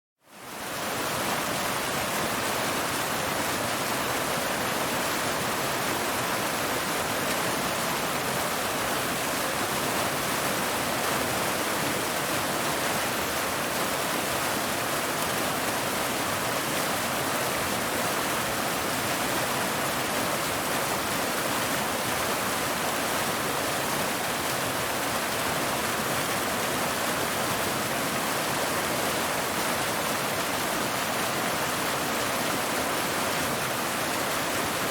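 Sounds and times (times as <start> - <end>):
waterfall rushing over rocks: 0.3 - 34.9.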